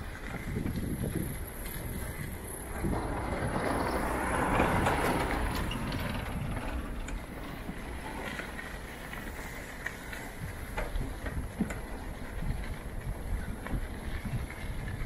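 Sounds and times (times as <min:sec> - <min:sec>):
bicycle tyres rolling: 0:00.0 - 0:15.0
bike clicks and rattles: 0:00.0 - 0:15.0
wind rush on microphone: 0:00.0 - 0:15.0.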